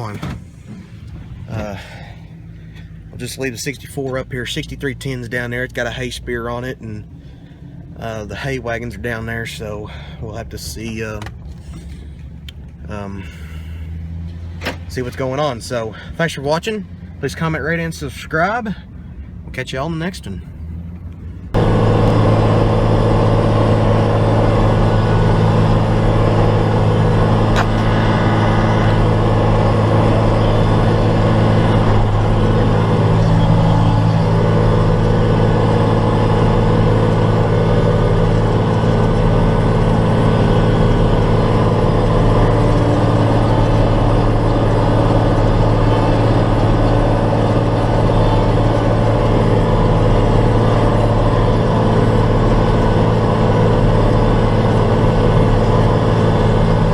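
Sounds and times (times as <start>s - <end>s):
diesel tractor engine droning: 0.0s - 56.9s.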